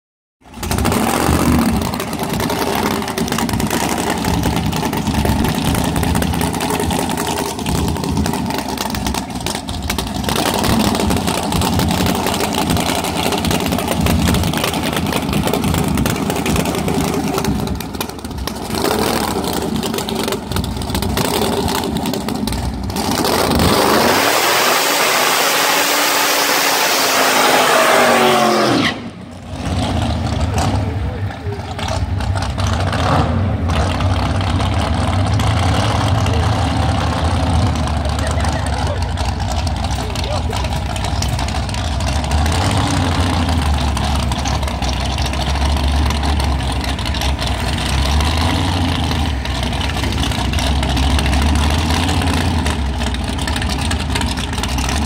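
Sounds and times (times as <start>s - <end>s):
drag car engine revving: 0.4s - 55.0s.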